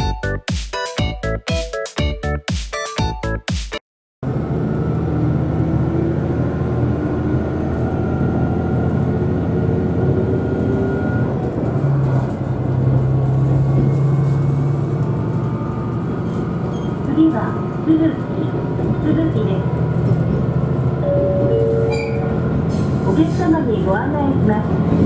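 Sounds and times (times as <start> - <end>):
railcar engine drone: 4.2 - 25.0.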